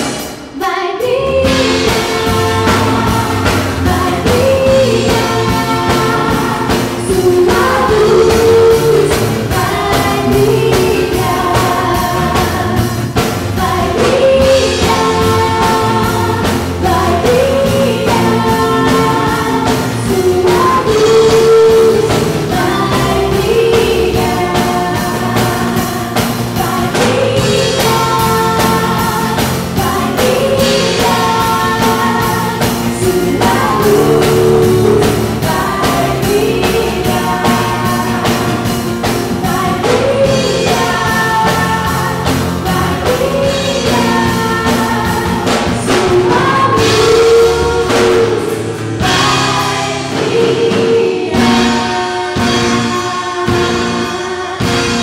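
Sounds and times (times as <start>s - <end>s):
drum kit beat: 0.0s - 55.0s
women singing into microphones: 0.6s - 55.0s
acoustic guitar: 1.0s - 55.0s.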